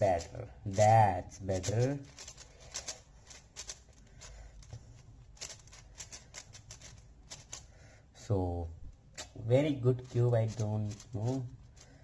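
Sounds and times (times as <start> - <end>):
speed cube clicking: 0.0 - 7.8, 9.2 - 12.0.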